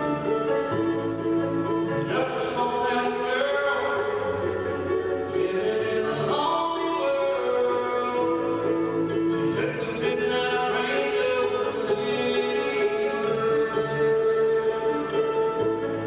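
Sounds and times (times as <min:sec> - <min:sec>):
bluegrass band playing: 0:00.0 - 0:16.0
man singing: 0:01.9 - 0:15.0.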